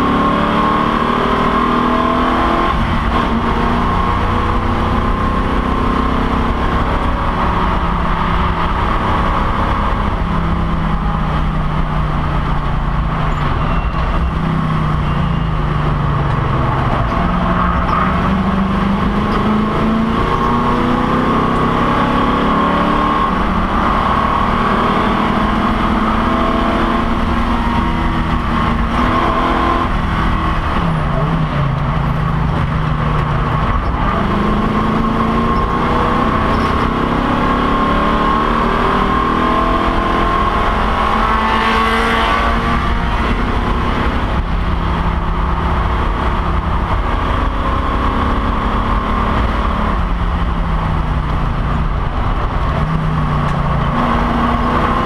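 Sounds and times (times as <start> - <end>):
race car engine: 0.0 - 55.0
road and wind noise: 0.0 - 55.0.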